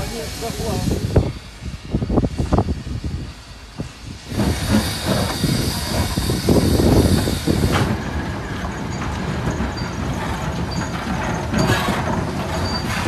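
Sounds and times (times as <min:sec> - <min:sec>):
train hiss and rumble: 0:00.0 - 0:13.0.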